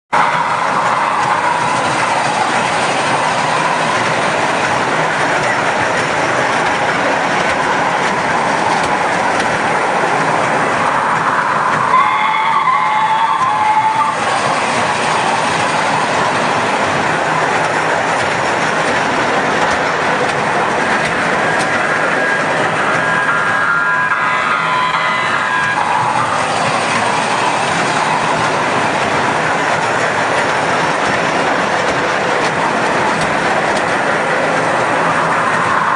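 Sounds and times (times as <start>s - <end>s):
train wheels on rails: 0.1s - 35.9s.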